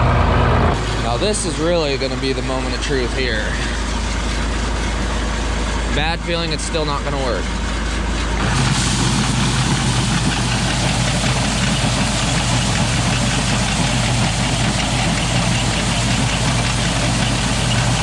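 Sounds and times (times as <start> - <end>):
auger turning: 0.0 - 18.0
diesel tractor engine running: 0.0 - 18.0.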